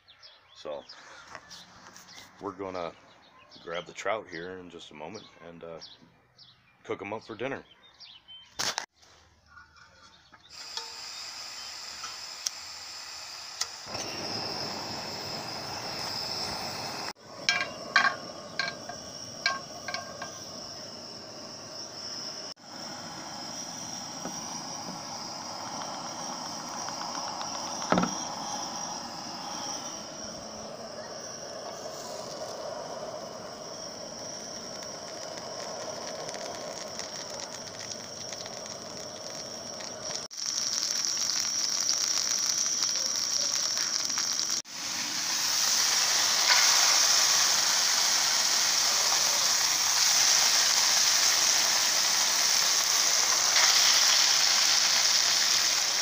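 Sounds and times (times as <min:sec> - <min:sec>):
camp stove hissing: 0:10.4 - 0:56.0
insects chirping: 0:10.4 - 0:56.0
fish sizzling in a pan: 0:10.5 - 0:56.0.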